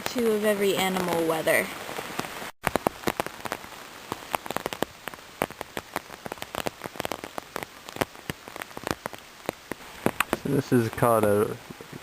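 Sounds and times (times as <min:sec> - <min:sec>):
heavy rain falling: 0:00.0 - 0:12.0
large raindrops tapping a surface: 0:00.0 - 0:12.0.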